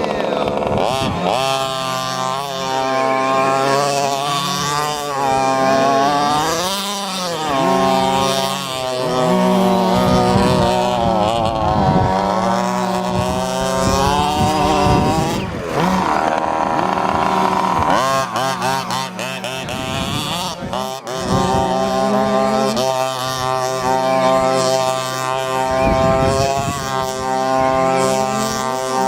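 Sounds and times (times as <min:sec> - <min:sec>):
two-stroke engine revving: 0:00.0 - 0:29.0.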